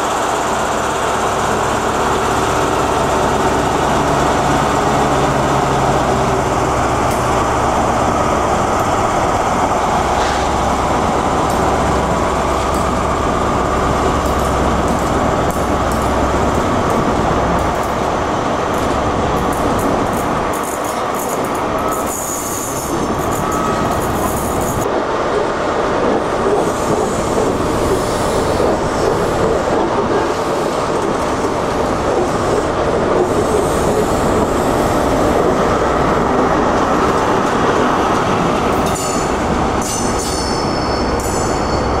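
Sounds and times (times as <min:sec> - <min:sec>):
train coaches rolling by: 0:00.0 - 0:42.0
train diesel engine passing: 0:00.0 - 0:42.0.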